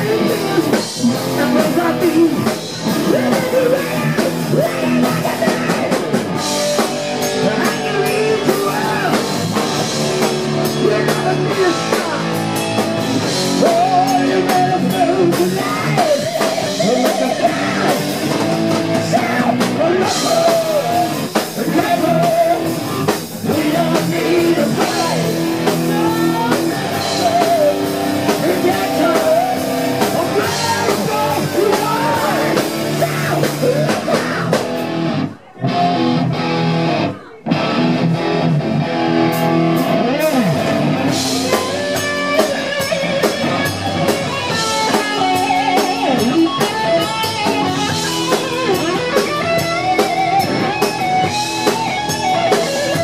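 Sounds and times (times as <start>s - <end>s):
man singing: 0.0s - 34.8s, 39.8s - 53.0s
drum kit: 0.0s - 53.0s
electric guitars: 0.0s - 53.0s.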